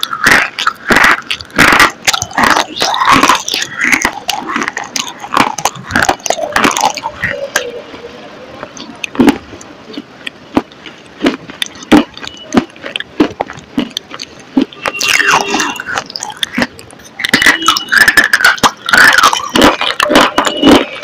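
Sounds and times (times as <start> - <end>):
crunching and chewing: 0.0 - 7.8, 8.6 - 21.0.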